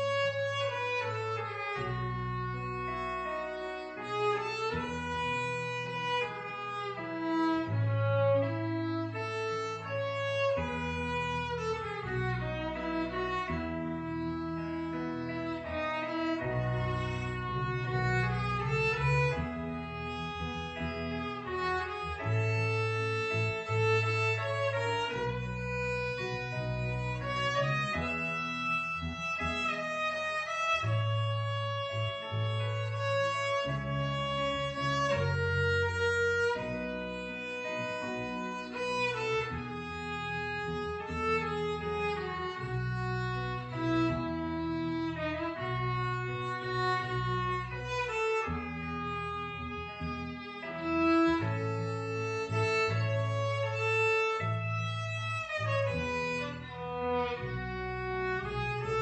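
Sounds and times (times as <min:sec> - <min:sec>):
low bass accompaniment: 0:00.0 - 0:59.0
violin playing slow melody: 0:00.0 - 0:59.0.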